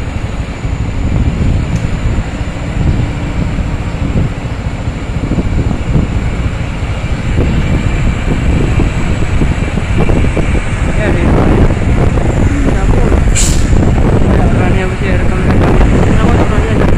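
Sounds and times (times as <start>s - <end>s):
truck engine low rumble: 0.0s - 16.9s
wind buffeting microphone: 0.0s - 16.9s.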